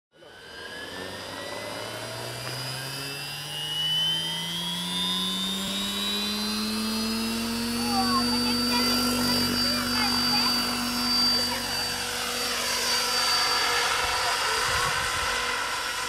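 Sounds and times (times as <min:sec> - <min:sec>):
model helicopter rotor whine: 0:00.2 - 0:16.0.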